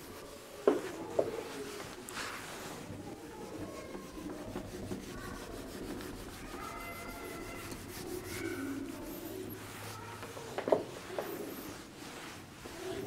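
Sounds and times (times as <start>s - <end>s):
eraser wiping a whiteboard: 0.0s - 13.0s.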